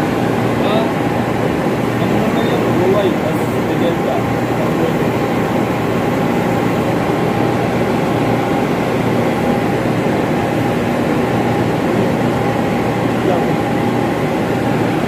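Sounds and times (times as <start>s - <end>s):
ventilation machinery droning: 0.0s - 15.0s.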